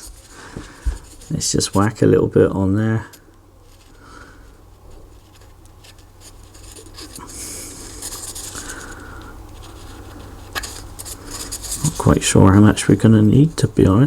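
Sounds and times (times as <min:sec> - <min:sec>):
sealant scratching and rubbing: 0:00.0 - 0:02.1, 0:03.2 - 0:13.7.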